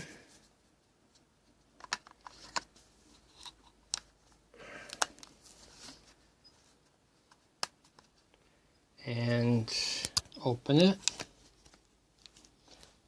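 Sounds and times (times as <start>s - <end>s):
rustling handling noise: 0.0s - 8.4s, 10.1s - 13.0s.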